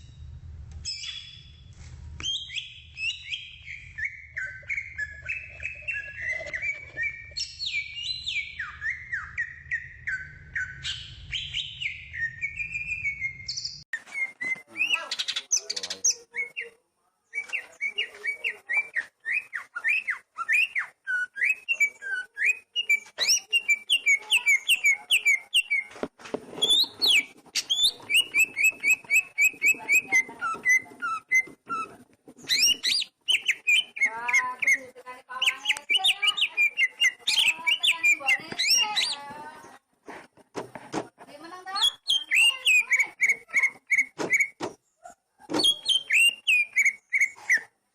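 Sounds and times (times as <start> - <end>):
bird singing whistled phrases: 0.8 - 1.5, 2.2 - 25.9, 26.6 - 31.5, 32.5 - 34.8, 35.4 - 39.2, 41.8 - 44.6, 45.6 - 47.7.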